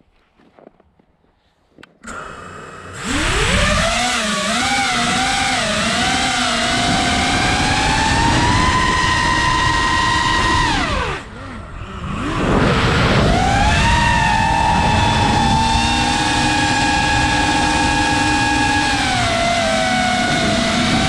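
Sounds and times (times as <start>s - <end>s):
drone motors whining: 2.0s - 21.0s.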